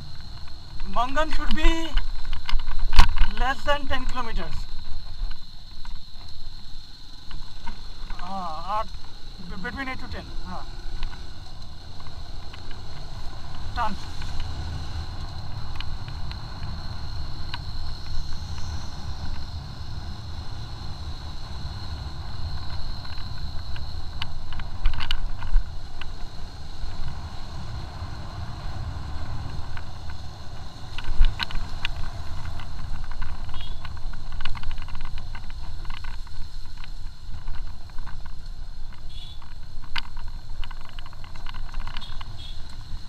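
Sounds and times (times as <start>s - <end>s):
motorcycle engine rumble: 0.0s - 43.0s.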